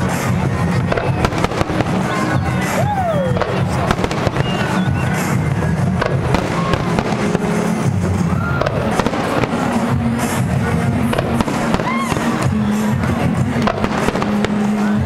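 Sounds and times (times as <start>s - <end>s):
firework whistles: 0.0s - 10.5s, 11.1s - 12.9s
fireworks bangs and crackles: 0.0s - 15.0s
music playing: 0.0s - 15.0s.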